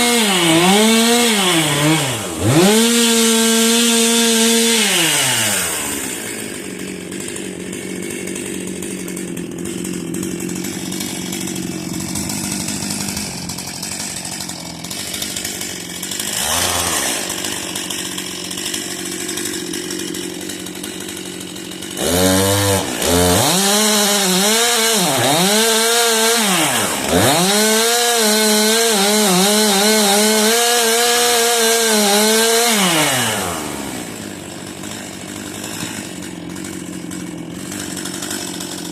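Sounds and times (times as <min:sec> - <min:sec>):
chainsaw cutting wood: 0:00.0 - 0:38.9
chainsaw engine revving: 0:00.0 - 0:38.9.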